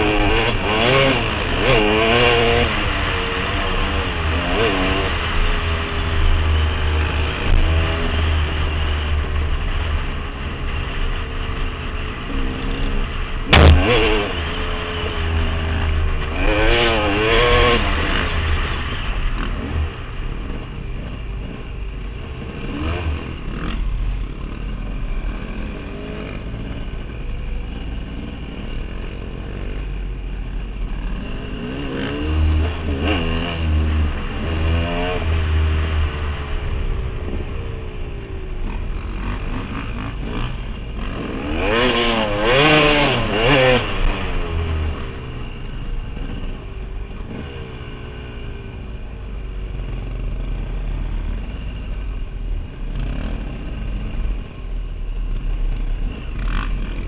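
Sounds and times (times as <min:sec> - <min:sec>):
dirt bike engine revving: 0:00.0 - 0:48.7, 0:55.2 - 0:57.0.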